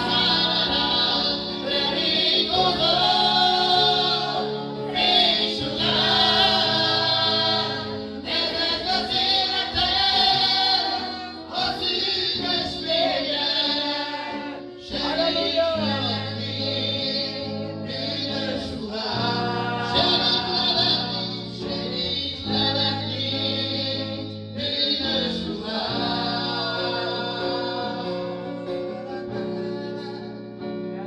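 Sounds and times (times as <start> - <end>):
man singing into a microphone: 0.0 - 8.0, 8.6 - 30.4
congregation singing: 0.0 - 31.0
guitar: 0.0 - 31.0
keyboard: 0.0 - 31.0.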